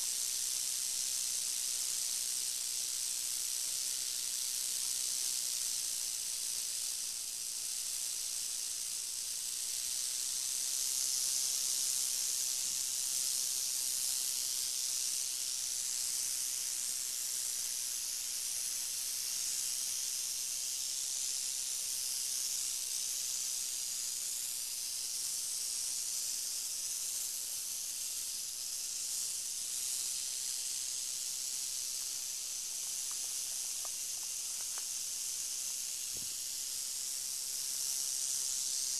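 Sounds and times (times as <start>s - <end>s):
rattlesnake rattling: 0.0s - 38.9s.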